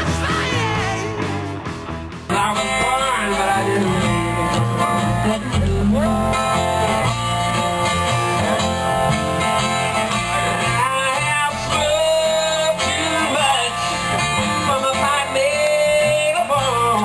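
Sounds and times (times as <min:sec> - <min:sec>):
person singing: 0:00.0 - 0:01.6, 0:02.3 - 0:17.0
country music with guitar: 0:00.0 - 0:17.0.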